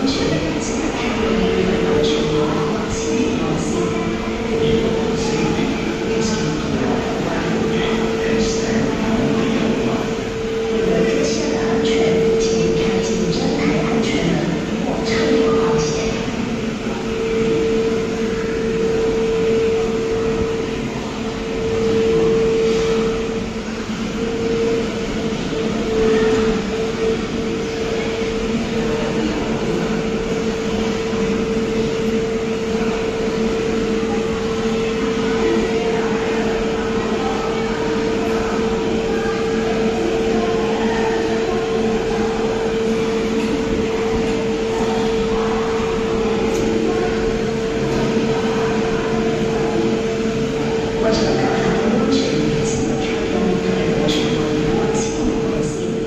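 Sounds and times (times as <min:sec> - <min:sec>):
funicular car humming: 0:00.0 - 0:56.0.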